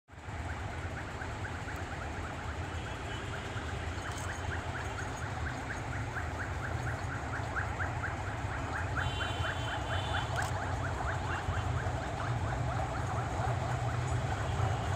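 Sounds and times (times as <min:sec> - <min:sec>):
steady low rumble: 0:00.1 - 0:14.9.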